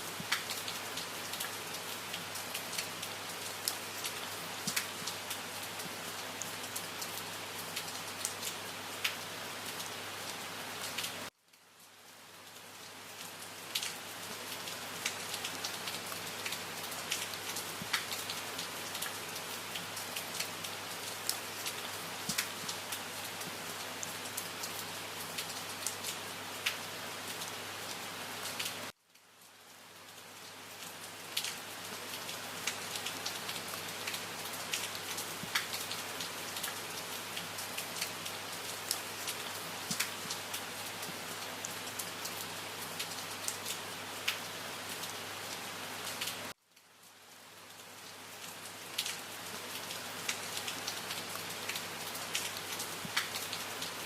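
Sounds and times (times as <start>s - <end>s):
raindrops striking a surface: 0.0s - 54.0s
steady rain falling: 0.0s - 54.0s.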